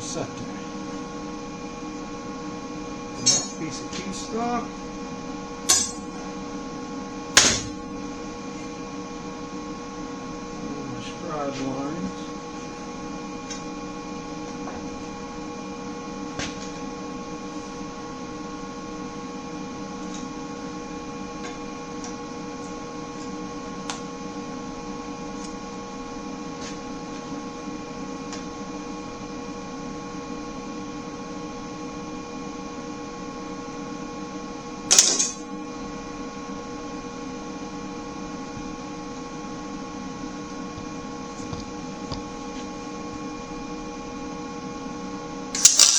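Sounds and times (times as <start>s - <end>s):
electrical hum: 0.0s - 45.9s.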